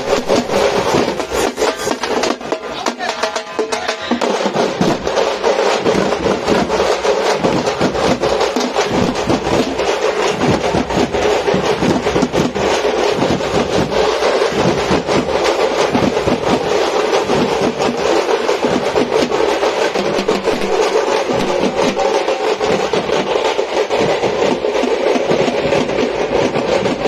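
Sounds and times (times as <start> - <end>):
frame drums beaten with sticks: 0.0 - 27.0
large crowd hubbub: 0.0 - 27.0.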